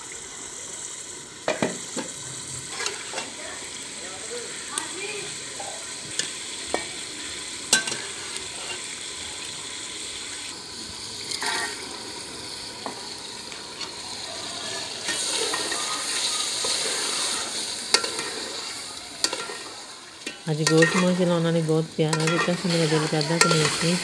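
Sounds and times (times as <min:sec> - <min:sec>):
curry sizzling in pot: 0:00.0 - 0:24.0.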